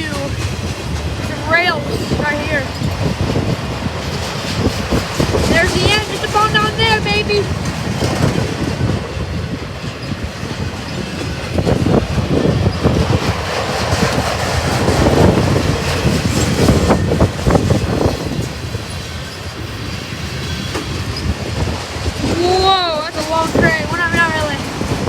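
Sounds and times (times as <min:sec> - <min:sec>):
freight train cars rumbling: 0:00.0 - 0:25.0
wheels clacking over rail joints: 0:00.0 - 0:25.0.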